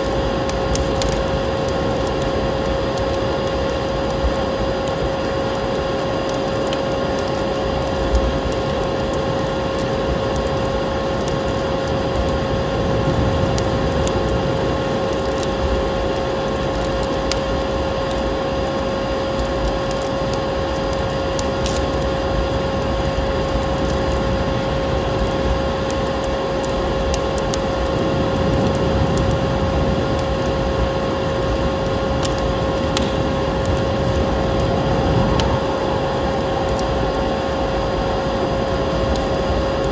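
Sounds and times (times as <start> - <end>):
vacuum cleaner drone: 0.0 - 39.9
wood fire crackling and popping: 0.0 - 39.9.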